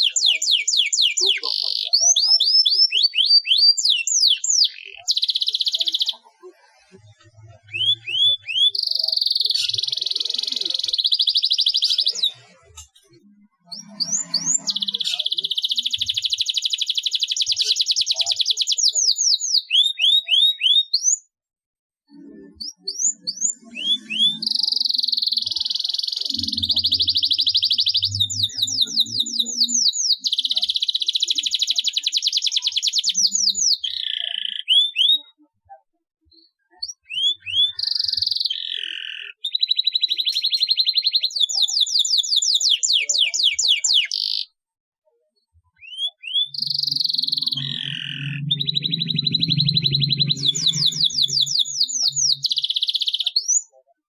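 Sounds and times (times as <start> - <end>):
canary singing trills: 0.0 - 21.3, 22.1 - 35.7, 36.3 - 44.6, 45.4 - 54.0.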